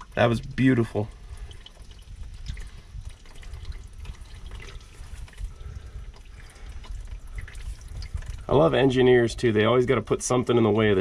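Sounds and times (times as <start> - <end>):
engine oil draining and splattering: 0.0 - 11.0
oil dripping: 0.0 - 11.0.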